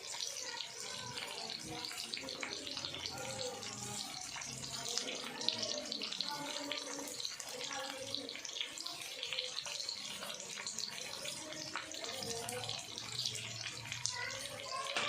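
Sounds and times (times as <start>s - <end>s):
faint voices: 0.0s - 15.0s
tap water running and splashing: 0.0s - 15.0s.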